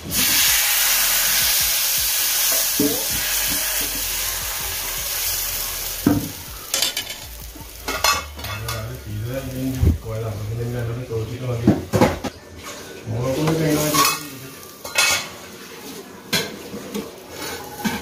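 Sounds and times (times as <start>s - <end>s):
batter sizzling on griddle: 0.0s - 11.6s, 12.8s - 18.0s.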